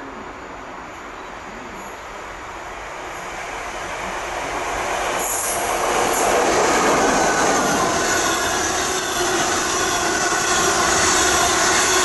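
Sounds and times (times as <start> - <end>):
diesel locomotive passing: 0.0 - 12.0.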